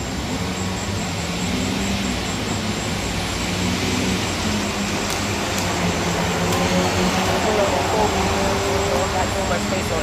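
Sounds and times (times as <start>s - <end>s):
outdoor background rumble: 0.0s - 10.0s.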